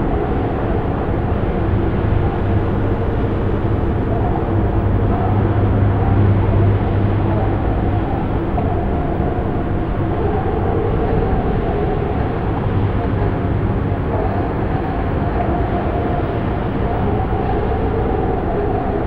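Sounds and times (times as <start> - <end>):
dark ambient drone music: 0.0 - 19.0.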